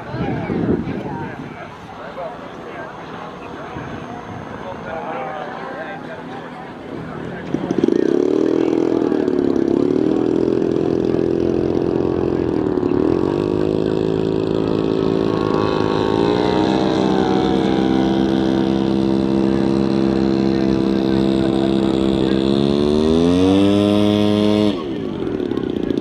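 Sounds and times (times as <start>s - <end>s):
model plane radial engine running: 0.8s - 26.0s.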